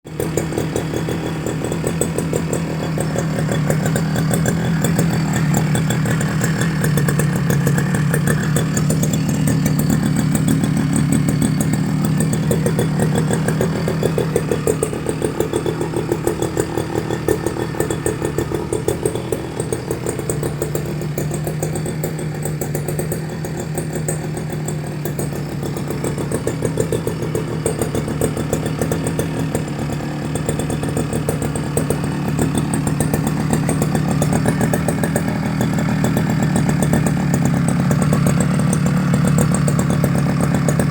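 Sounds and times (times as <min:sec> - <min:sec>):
brush cutter engine buzzing: 0:00.2 - 0:22.4, 0:24.5 - 0:40.9.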